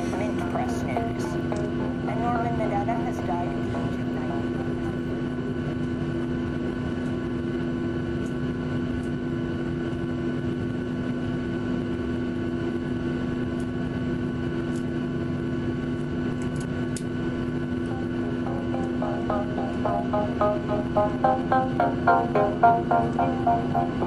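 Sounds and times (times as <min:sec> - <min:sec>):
jet engines hum and whine: 0:00.0 - 0:24.0.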